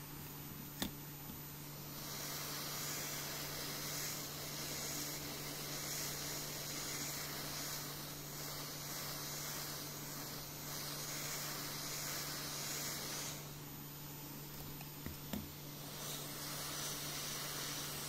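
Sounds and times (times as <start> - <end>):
hot air gun hissing: 1.6 - 13.8, 14.4 - 18.0.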